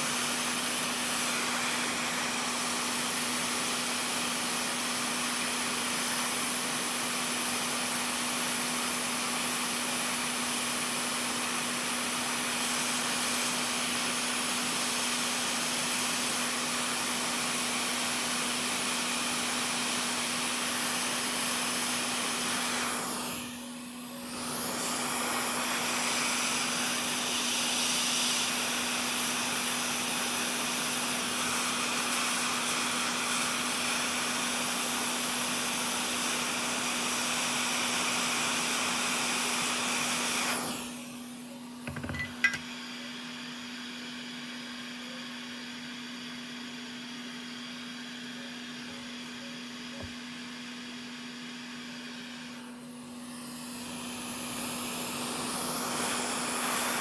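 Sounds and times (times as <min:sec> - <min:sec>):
electric blower rushing air: 0:00.0 - 0:41.2, 0:51.8 - 0:57.0.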